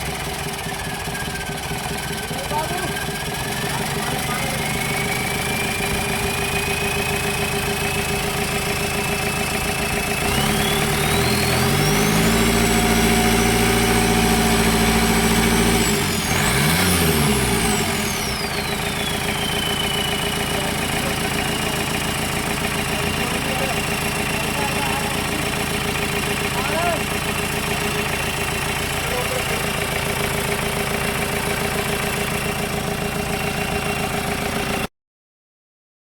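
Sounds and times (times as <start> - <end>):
car engine idling and revving: 0.0 - 34.9
engine whine: 0.0 - 34.9.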